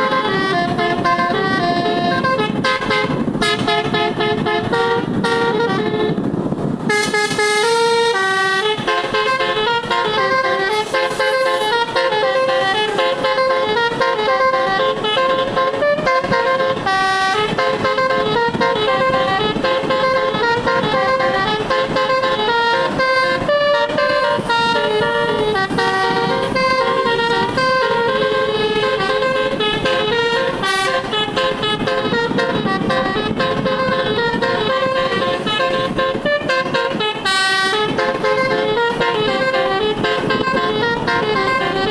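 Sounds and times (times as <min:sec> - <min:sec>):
multi-tone air horn playing tune: 0:00.0 - 0:41.9.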